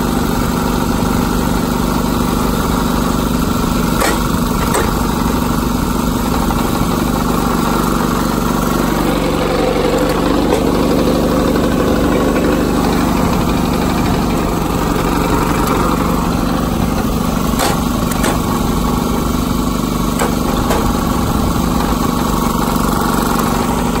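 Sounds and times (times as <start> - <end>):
log splitter engine running: 0.0 - 24.0.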